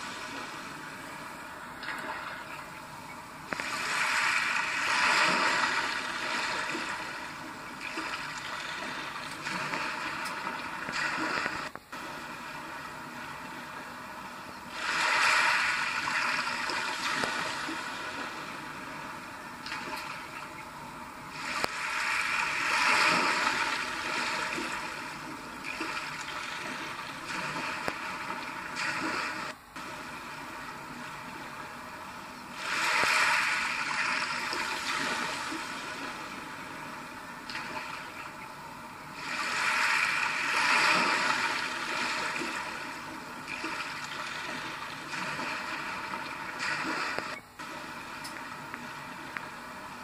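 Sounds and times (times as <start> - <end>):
sea waves through small speaker: 0.0 - 50.0.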